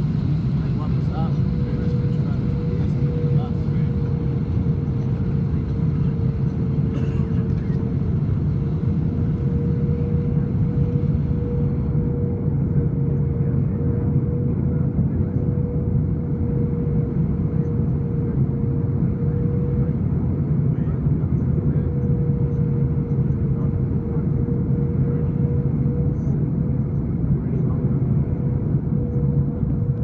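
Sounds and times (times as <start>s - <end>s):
airliner cabin engine rumble: 0.0s - 30.0s
constant hum: 0.0s - 30.0s.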